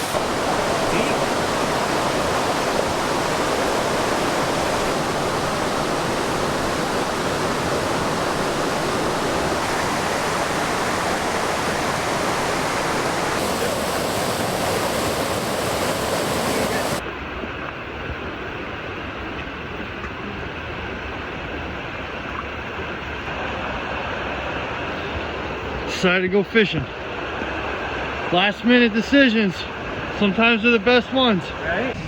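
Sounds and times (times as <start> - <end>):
creek water rushing: 0.0 - 17.5, 18.4 - 32.0.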